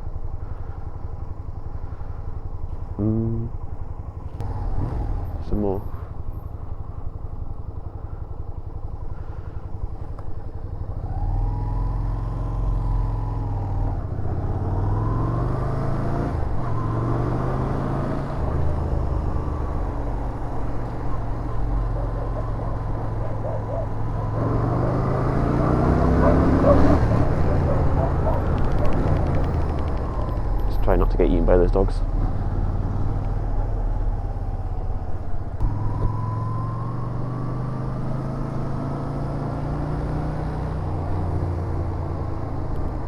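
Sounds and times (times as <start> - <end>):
motorcycle engine accelerating: 1.4 - 43.0.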